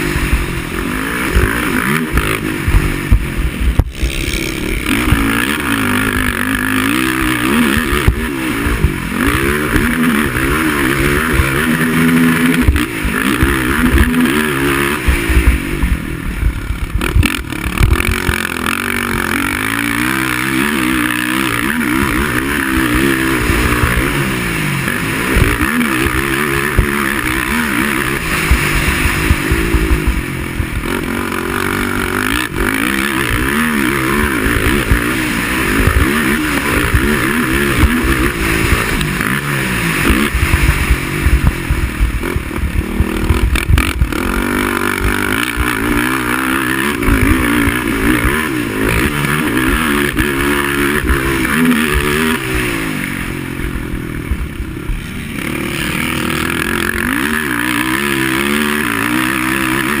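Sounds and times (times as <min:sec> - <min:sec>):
quad engine revving: 0:00.0 - 1:00.0.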